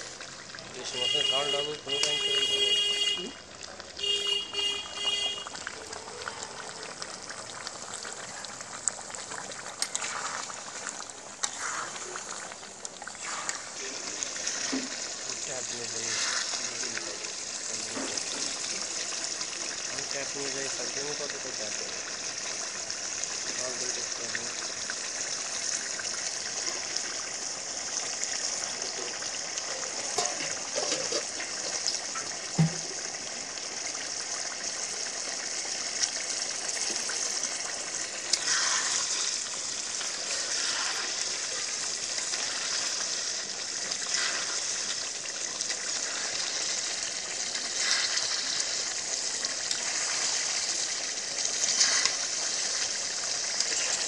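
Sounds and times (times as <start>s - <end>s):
curry sizzling in a pan: 0.0s - 54.0s.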